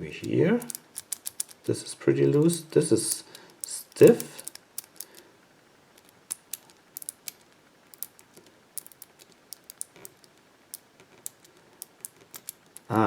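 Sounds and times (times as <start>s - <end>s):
padlock wheels clicking: 0.2s - 5.2s, 5.9s - 13.0s.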